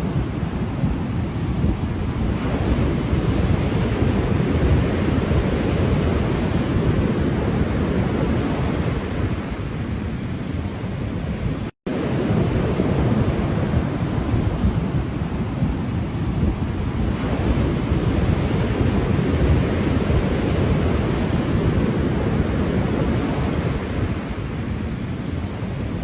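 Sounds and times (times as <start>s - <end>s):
ocean waves rushing: 0.0s - 26.0s.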